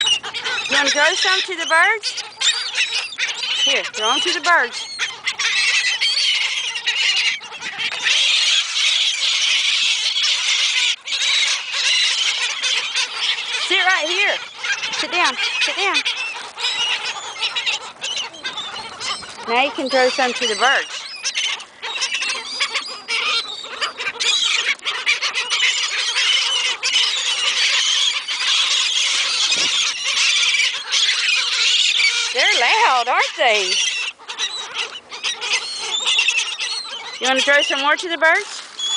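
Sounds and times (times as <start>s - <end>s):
seagulls calling: 0.0s - 38.9s.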